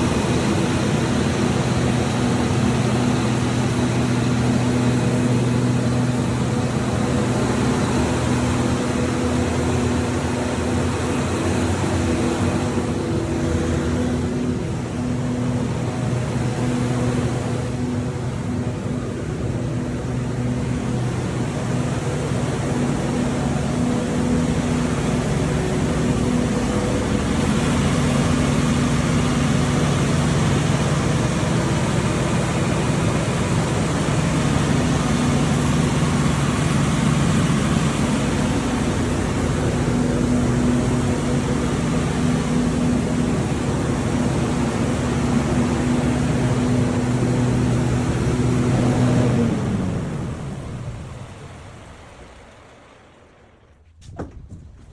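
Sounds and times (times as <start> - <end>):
power generator running: 0.0 - 54.9.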